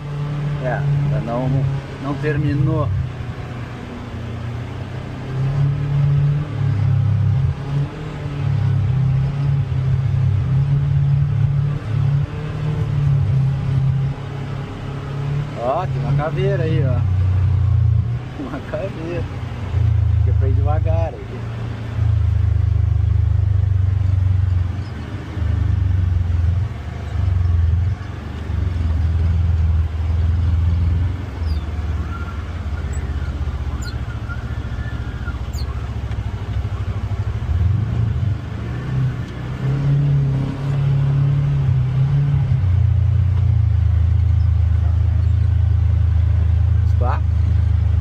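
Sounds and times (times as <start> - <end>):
utility vehicle engine droning: 0.0 - 48.0.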